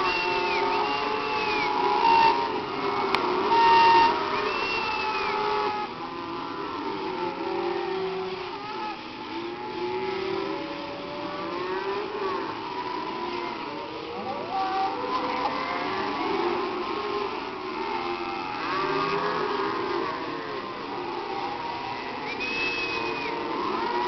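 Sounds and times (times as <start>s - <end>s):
cattle lowing: 0.0s - 24.0s.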